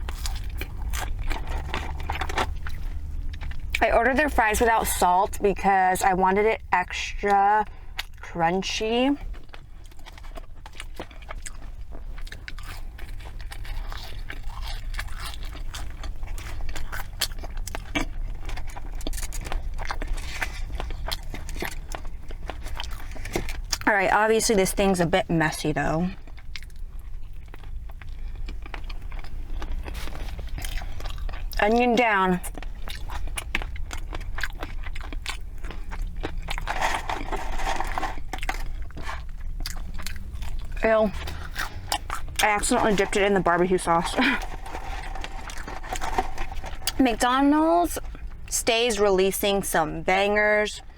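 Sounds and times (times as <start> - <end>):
chewing with crunches: 0.0 - 49.6.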